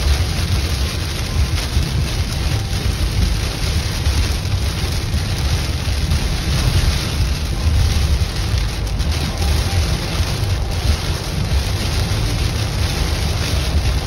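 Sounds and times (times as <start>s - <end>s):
heavy rain on car roof: 0.0s - 14.0s
tyres rumbling on wet road: 0.0s - 14.0s.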